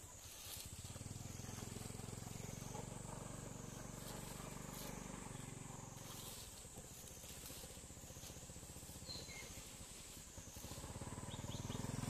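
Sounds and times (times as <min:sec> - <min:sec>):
high insect drone: 0:00.0 - 0:12.0
low pulsing engine drone: 0:00.0 - 0:12.0.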